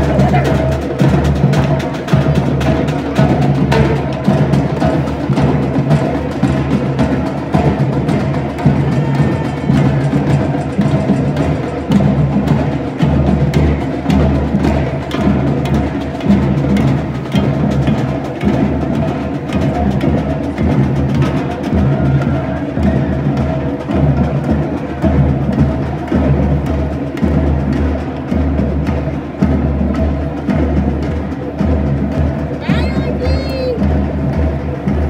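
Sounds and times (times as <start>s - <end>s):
percussion beat: 0.0s - 35.0s.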